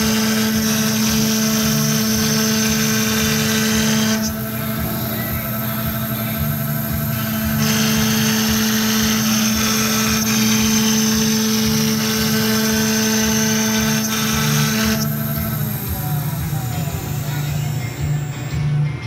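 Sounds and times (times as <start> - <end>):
bit cutting into wood: 0.0 - 18.6
router spindle whining: 0.0 - 19.0.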